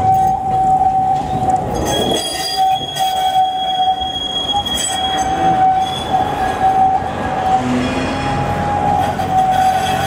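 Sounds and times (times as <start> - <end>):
tram whining on rails: 0.0 - 10.0.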